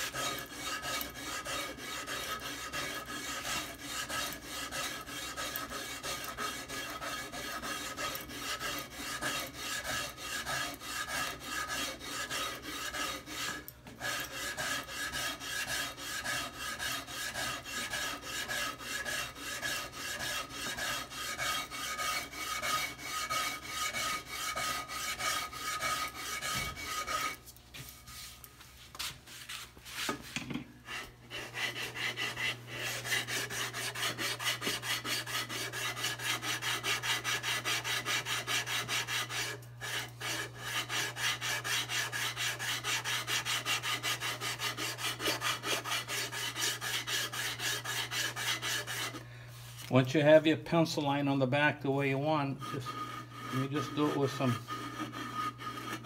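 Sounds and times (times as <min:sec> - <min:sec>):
sandpaper rubbing on wood: 0:00.0 - 0:27.4, 0:29.0 - 0:49.9, 0:52.0 - 0:56.0.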